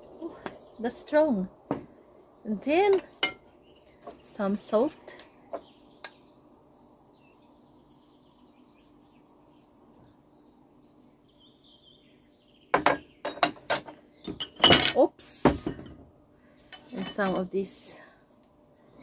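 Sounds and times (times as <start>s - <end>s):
faint birdsong: 0.0s - 15.0s, 15.6s - 19.0s
low steady hum: 0.0s - 19.0s.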